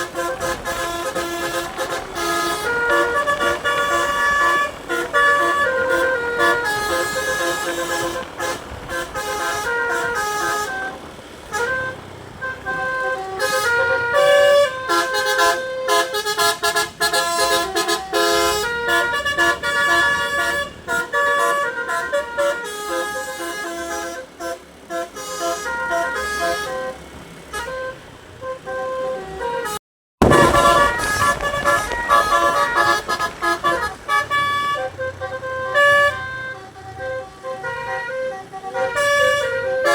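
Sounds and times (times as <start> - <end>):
musical air horn playing tunes: 0.0 - 39.9.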